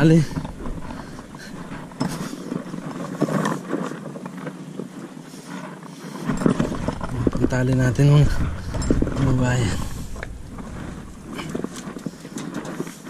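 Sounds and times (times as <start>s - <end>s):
footsteps on boulders: 0.0s - 13.0s
outdoor noise rush: 0.0s - 13.0s.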